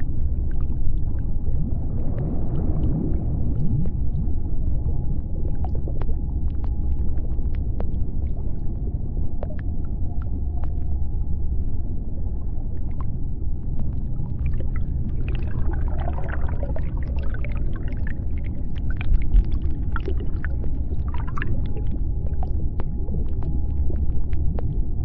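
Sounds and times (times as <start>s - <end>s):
deep underwater rumble: 0.0s - 25.0s
sharp underwater clicks: 2.0s - 11.0s, 12.8s - 25.0s.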